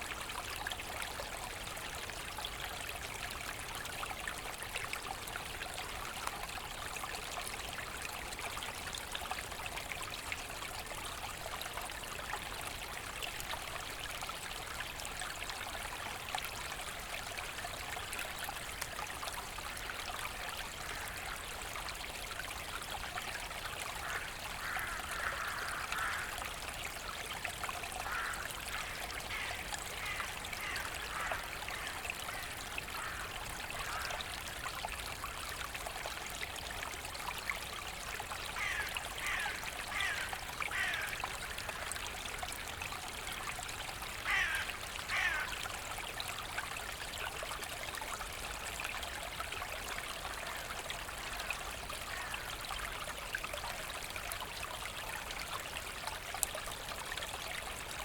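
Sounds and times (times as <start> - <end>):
brook flowing and trickling: 0.0 - 58.0.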